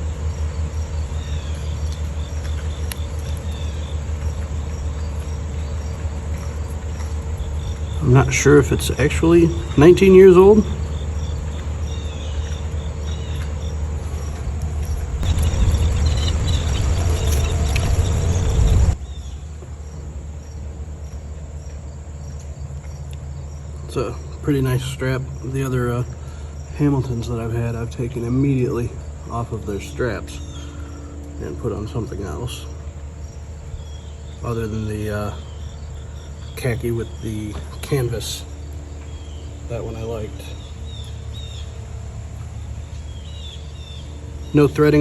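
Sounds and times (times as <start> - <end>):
insects chirping: 0.0 - 45.0
loud low rumble and rustle: 0.0 - 45.0
low hum: 0.0 - 45.0.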